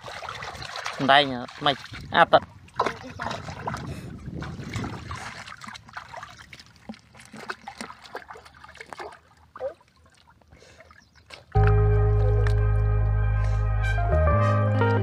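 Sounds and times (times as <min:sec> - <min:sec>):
hand squelching through muddy water: 0:00.0 - 0:15.0.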